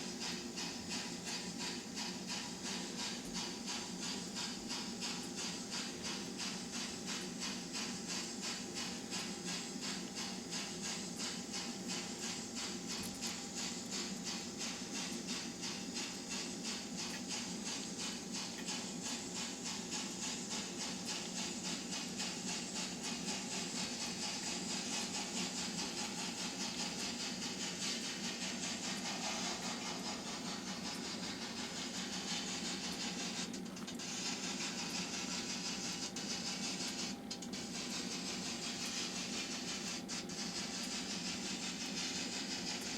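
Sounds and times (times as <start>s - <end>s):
model steam locomotive chuffing: 0.0s - 42.9s.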